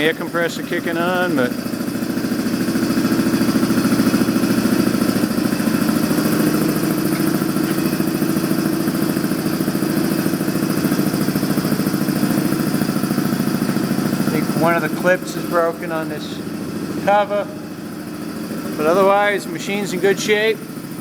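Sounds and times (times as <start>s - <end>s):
air compressor running: 0.0s - 21.0s.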